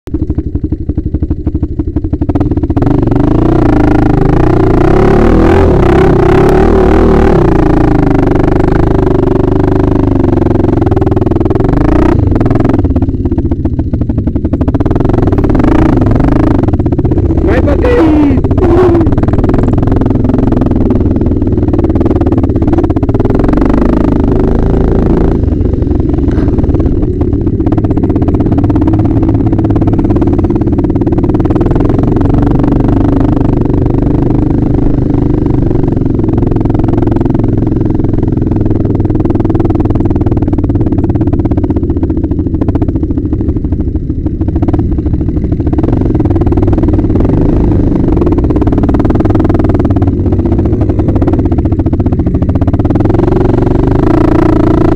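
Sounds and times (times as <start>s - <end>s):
quad bike engine running: 0.1s - 54.9s.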